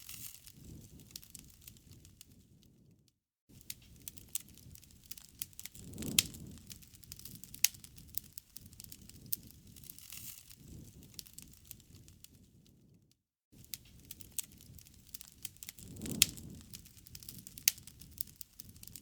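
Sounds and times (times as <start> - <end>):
campfire crackling and popping: 0.0 - 13.0, 13.6 - 19.0
low rumble of flames: 0.0 - 19.0.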